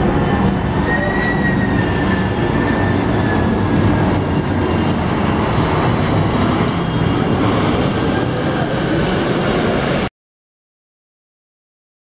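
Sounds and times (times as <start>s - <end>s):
jet airliner roaring overhead: 0.0s - 10.1s.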